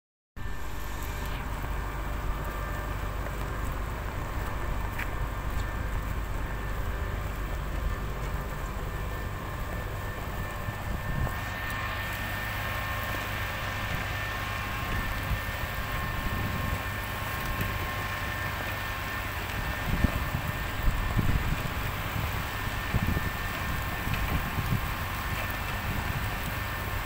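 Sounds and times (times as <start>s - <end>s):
diesel engine rumbling: 0.4s - 27.0s
thin steady whine: 0.4s - 27.0s.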